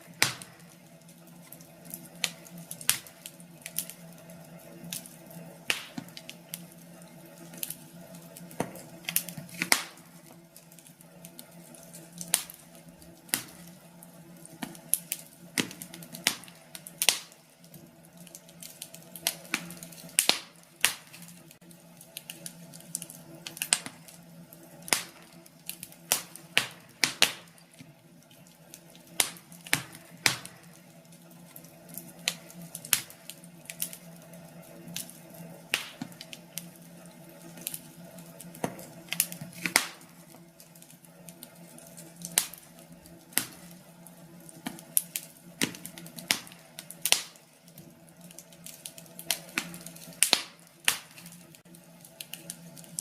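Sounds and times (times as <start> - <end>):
low steady hum: 0.0 - 53.0
wood fire crackling: 0.0 - 53.0.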